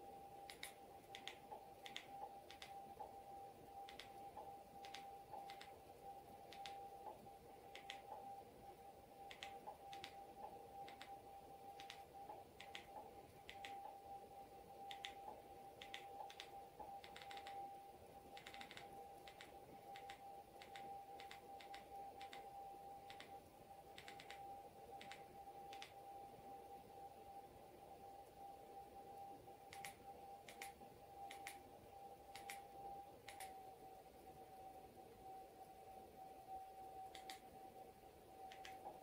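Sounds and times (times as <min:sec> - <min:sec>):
steady faint tone: 0:00.0 - 0:39.0.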